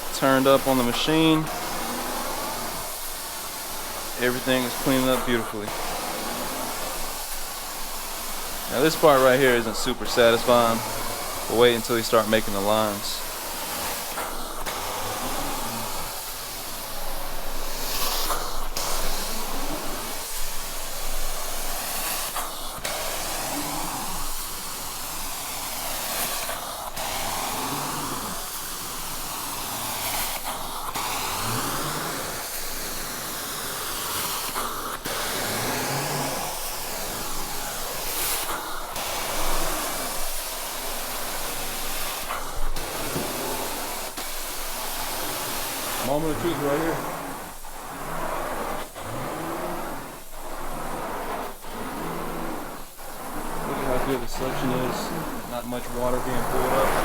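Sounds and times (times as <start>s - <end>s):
carpet extraction wand suction hiss: 0.0s - 57.0s.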